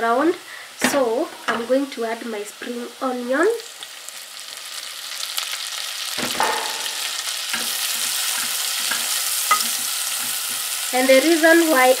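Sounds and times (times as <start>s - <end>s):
spring onion sizzling in butter: 0.0s - 12.0s.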